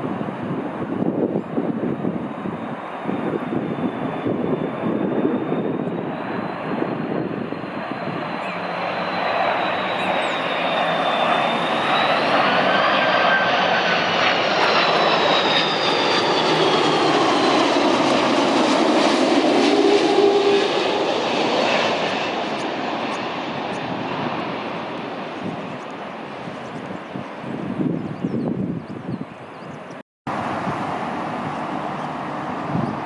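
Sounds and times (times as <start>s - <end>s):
jet airliner roaring past: 0.0s - 33.0s.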